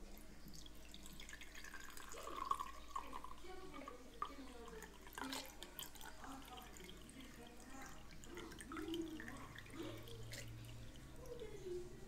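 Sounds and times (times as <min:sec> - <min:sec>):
water dripping into a sink: 0:00.0 - 0:12.0.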